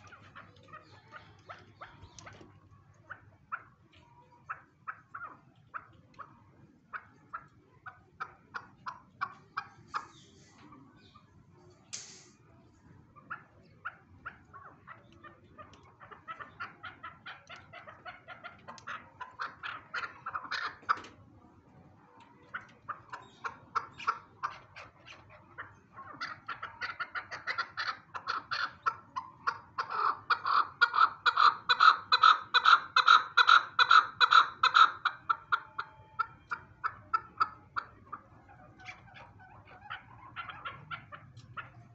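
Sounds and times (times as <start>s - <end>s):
partridge clucking calls: 0.0s - 41.9s.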